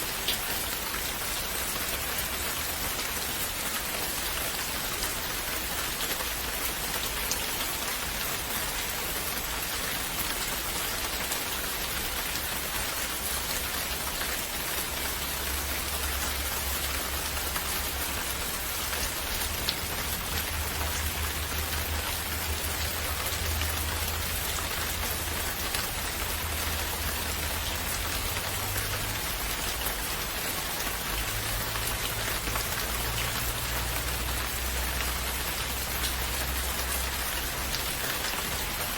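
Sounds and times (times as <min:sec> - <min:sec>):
gentle rain falling: 0:00.0 - 0:38.9.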